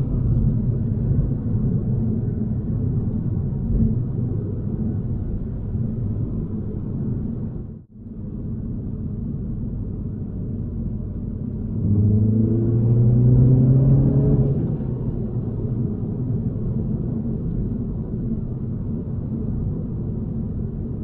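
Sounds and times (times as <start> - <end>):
car engine cruising: 0.0 - 7.6, 8.4 - 21.0.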